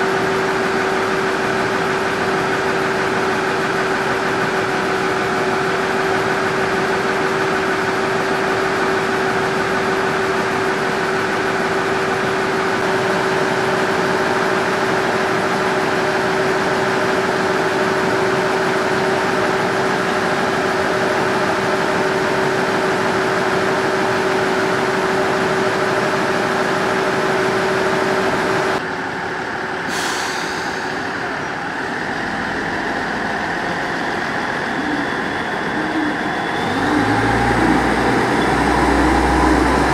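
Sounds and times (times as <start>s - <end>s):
diesel railcar engine idling: 0.0s - 39.9s.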